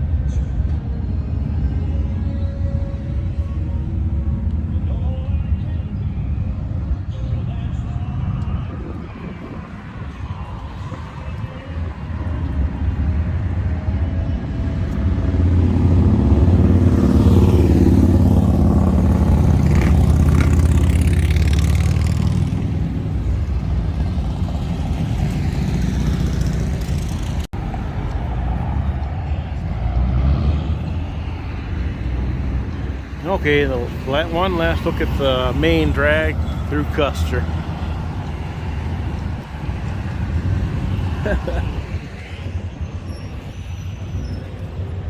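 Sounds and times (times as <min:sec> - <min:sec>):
street traffic passing: 0:00.0 - 0:45.0.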